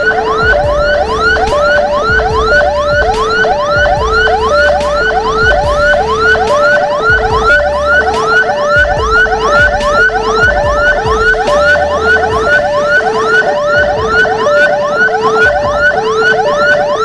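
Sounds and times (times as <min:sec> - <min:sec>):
low rumble: 0:00.0 - 0:14.2
rising whoop siren: 0:00.0 - 0:17.0
two-tone hi-lo siren: 0:00.0 - 0:17.0.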